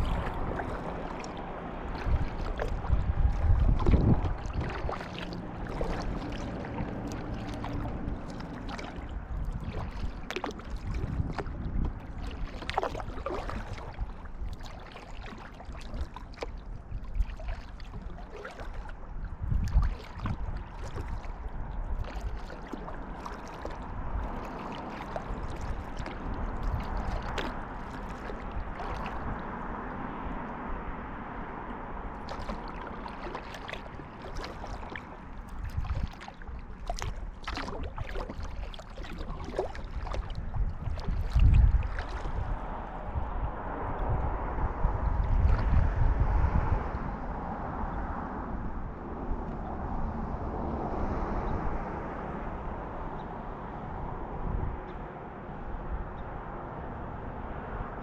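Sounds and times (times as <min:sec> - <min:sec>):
paddle blades splashing: 0:00.0 - 0:47.4
water lapping against hull: 0:00.0 - 0:58.0.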